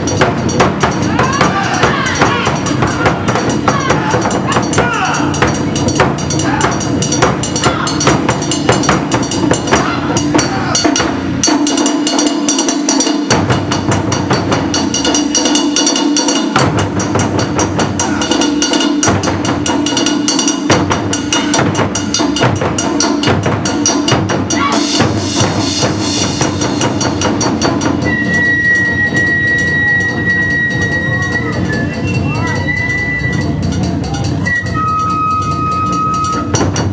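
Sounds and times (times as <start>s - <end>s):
taiko drums playing: 0.0s - 36.9s.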